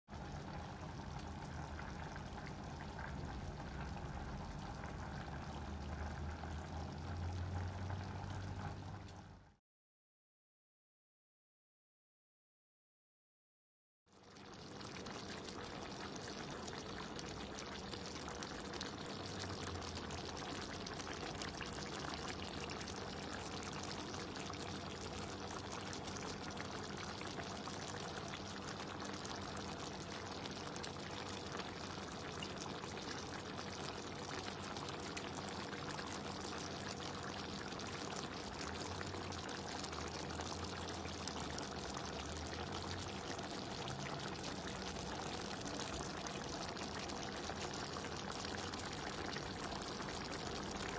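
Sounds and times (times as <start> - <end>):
food sizzling and bubbling in a pan: 0.1 - 9.6, 14.1 - 50.9.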